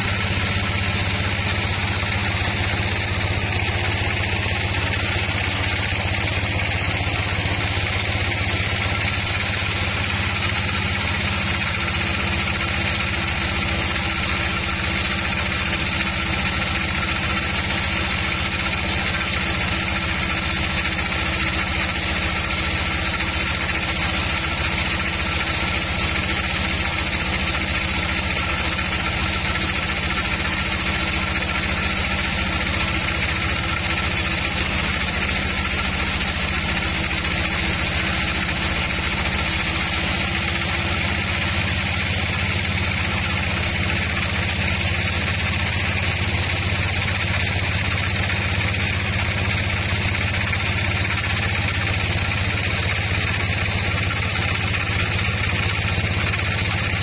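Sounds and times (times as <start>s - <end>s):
band saw cutting a log: 0.0s - 57.0s.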